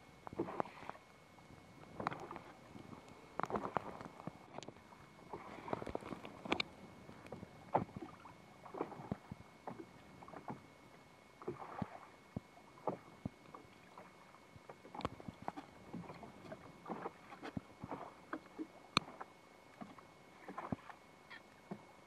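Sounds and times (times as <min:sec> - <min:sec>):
soft water splashes: 0:00.0 - 0:22.0
water lapping against boat hull: 0:00.0 - 0:22.0
knocks and clicks on boat: 0:00.2 - 0:01.0, 0:01.7 - 0:10.8, 0:11.4 - 0:22.0.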